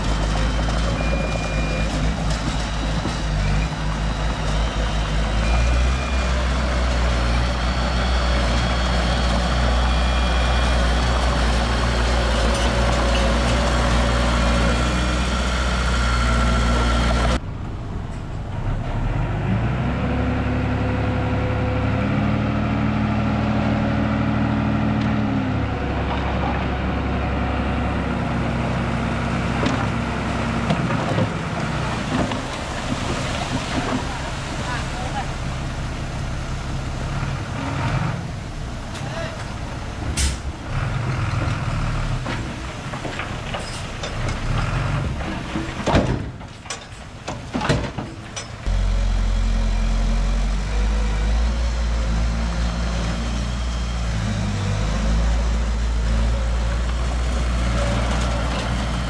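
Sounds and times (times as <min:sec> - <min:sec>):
heavy machinery engines: 0:00.0 - 0:59.0.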